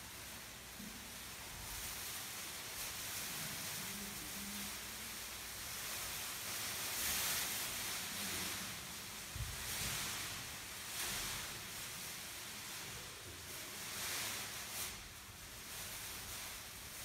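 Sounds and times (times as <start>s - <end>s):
foil blankets crackling: 0.0s - 17.0s.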